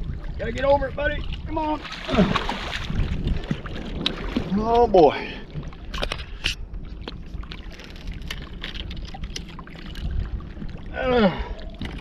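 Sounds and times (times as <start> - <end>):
low wind rumble on microphone: 0.0 - 12.0
water around a small boat: 0.0 - 12.0.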